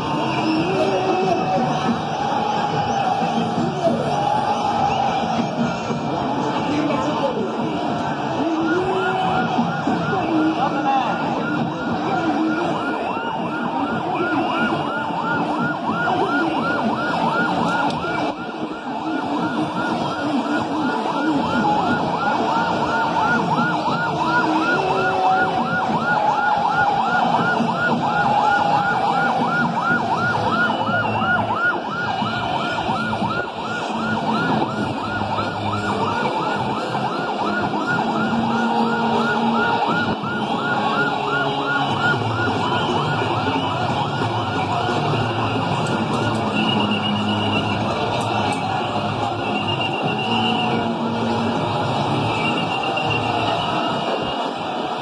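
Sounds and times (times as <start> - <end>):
ambulance siren yelping: 0.0 - 55.0
huge crowd noise: 0.0 - 55.0.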